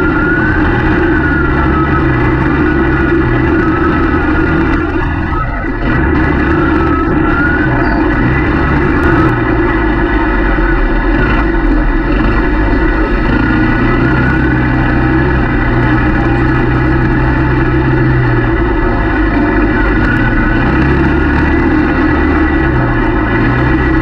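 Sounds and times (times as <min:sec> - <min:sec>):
quad bike engine droning: 0:00.0 - 0:24.0.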